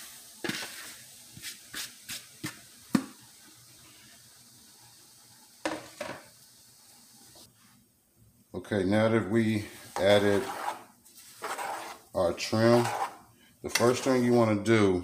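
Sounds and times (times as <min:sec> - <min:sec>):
oil sizzling: 0:00.0 - 0:07.8, 0:09.2 - 0:15.0.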